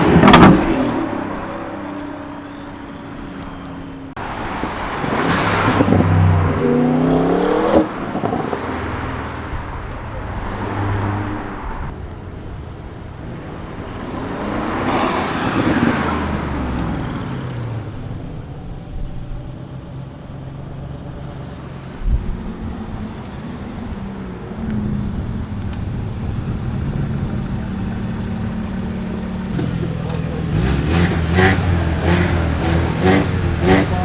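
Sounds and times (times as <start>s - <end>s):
car engines running low revs: 0.0s - 12.0s, 13.1s - 34.0s
car passing: 0.0s - 34.0s.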